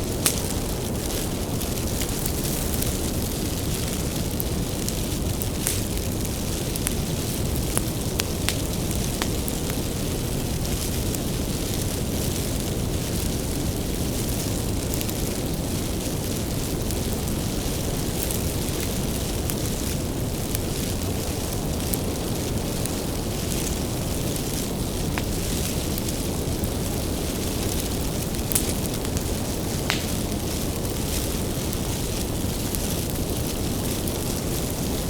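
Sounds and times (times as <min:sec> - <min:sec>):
low rush of flame: 0:00.0 - 0:35.0
wood crackling and popping: 0:00.0 - 0:35.0.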